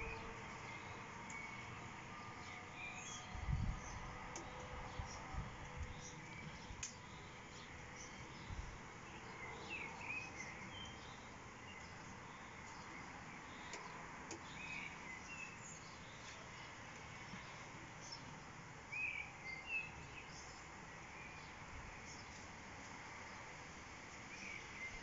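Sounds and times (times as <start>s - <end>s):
songbird chirping: 0.0s - 23.5s
outdoor ambience hiss: 0.0s - 25.0s.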